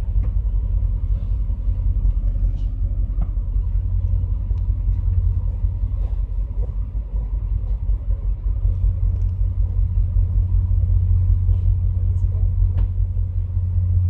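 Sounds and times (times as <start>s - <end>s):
train rumbling in a tunnel: 0.0s - 14.0s.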